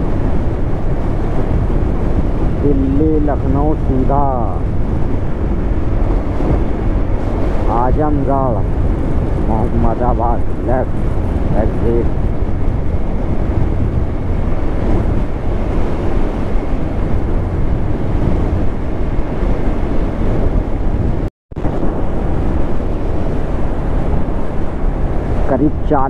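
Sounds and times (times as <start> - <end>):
low engine and road rumble: 0.0 - 26.0
wind rushing over microphone: 0.0 - 26.0.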